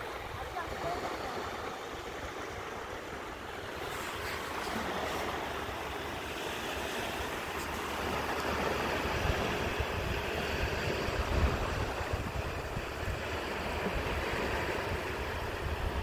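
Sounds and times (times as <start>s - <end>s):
calm sea waves on sand: 0.0s - 16.0s.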